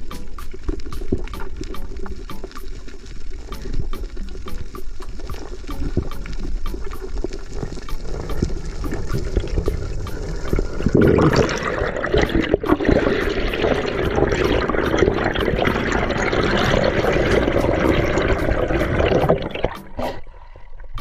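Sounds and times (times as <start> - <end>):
water rushing and bubbling: 0.0 - 21.0.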